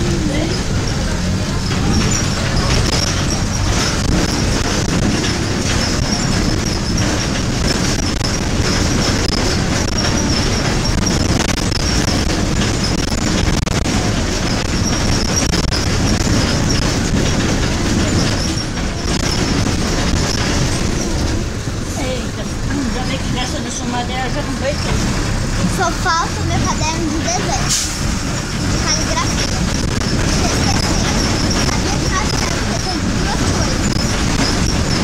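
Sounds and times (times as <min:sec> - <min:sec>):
bus engine and road noise: 0:00.0 - 0:35.0
high wavering squeak of bus body: 0:00.0 - 0:35.0.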